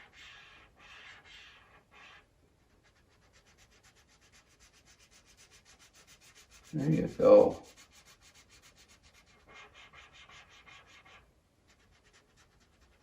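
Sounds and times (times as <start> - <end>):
felt-tip marker rubbing on paper: 0.0 - 13.0.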